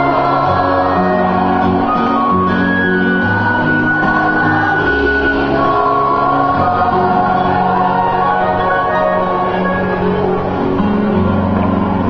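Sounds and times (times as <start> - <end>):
voices singing a hymn: 0.0 - 10.2
held instrumental chords: 0.0 - 12.0.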